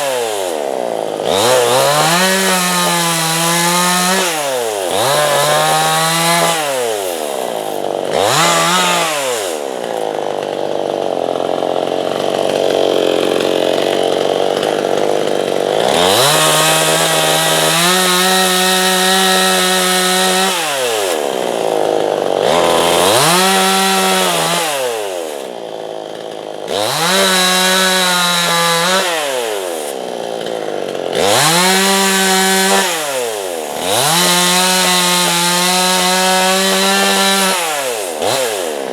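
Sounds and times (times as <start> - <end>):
chainsaw cutting through log: 0.0 - 38.9.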